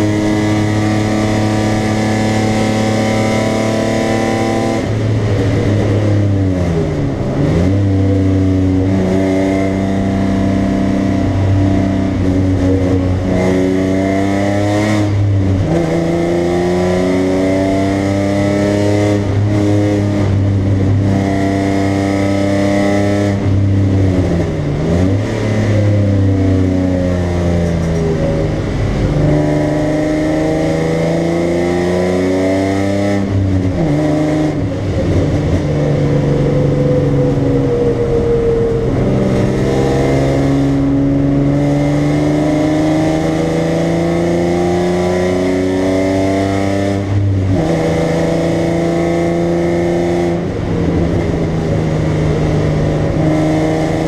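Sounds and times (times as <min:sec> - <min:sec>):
car engine accelerating and shifting: 0:00.0 - 0:54.0.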